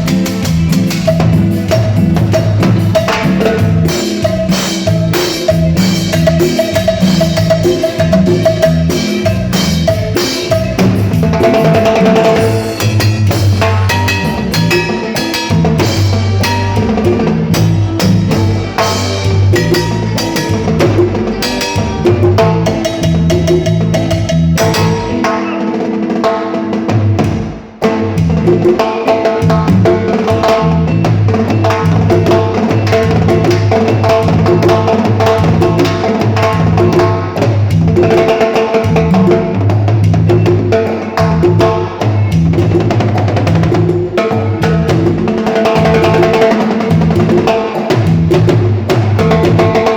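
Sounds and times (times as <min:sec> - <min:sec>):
drum kit and percussion beat: 0:00.0 - 0:49.9
live band playing: 0:00.0 - 0:49.9.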